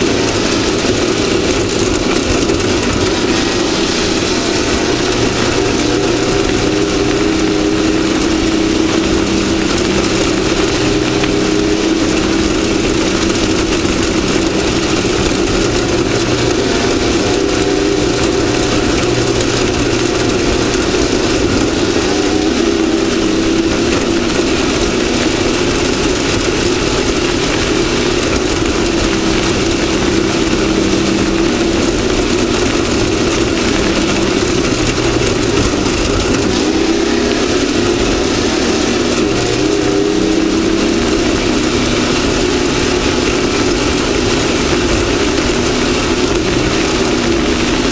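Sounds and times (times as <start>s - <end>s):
constant rush of noise: 0.0s - 47.9s
race vehicle engine running hard: 0.0s - 47.9s.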